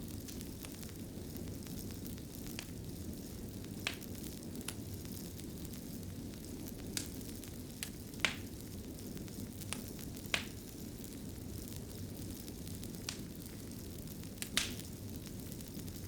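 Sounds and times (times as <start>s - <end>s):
sharp fire pops: 0.0s - 12.0s, 12.6s - 16.0s
fire rumbling and crackling: 0.0s - 16.0s.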